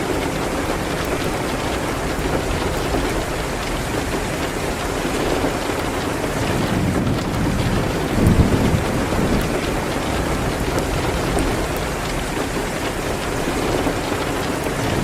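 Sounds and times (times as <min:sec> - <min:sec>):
heavy rain on window: 0:00.0 - 0:15.0.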